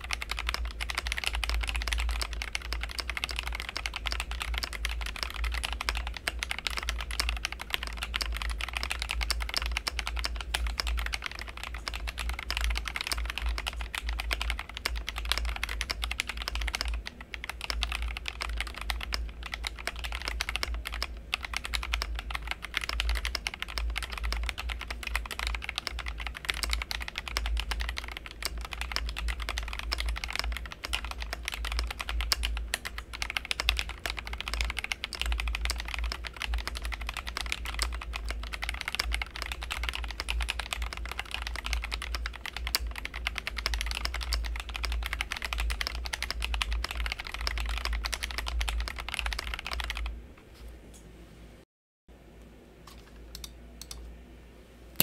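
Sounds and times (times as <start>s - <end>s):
fast mechanical keyboard typing: 0.0s - 50.2s.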